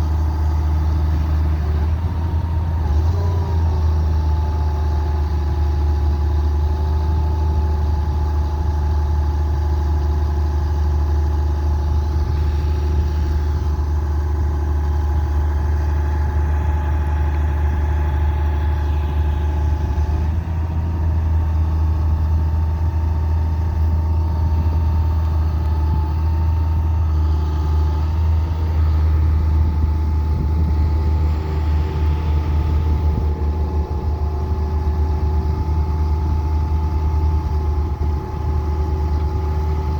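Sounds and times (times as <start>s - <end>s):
engine whine: 0.0s - 39.9s
excavator diesel engine rumble: 0.0s - 39.9s.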